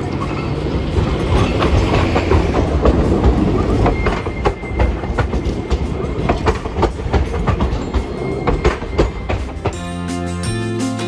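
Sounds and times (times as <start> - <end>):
wheels clacking over rail crossings: 0.0 - 10.7
tram wheels rumbling: 0.0 - 10.8.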